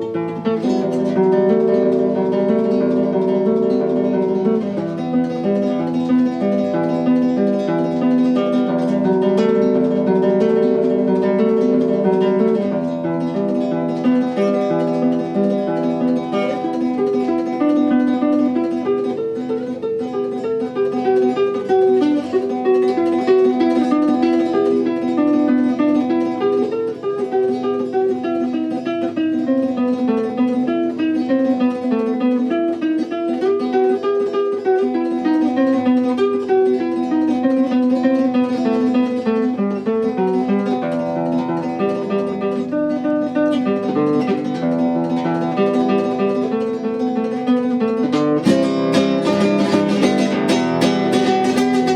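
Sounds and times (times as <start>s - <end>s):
acoustic guitar music: 0.0s - 51.9s.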